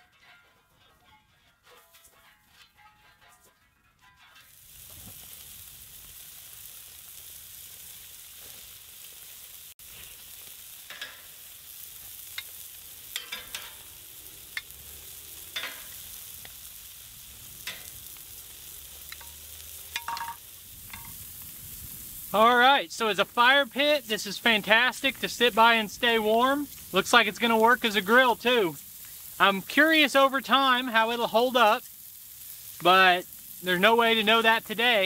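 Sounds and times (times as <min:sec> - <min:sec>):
meat sizzling on a grill: 0:04.3 - 0:35.0.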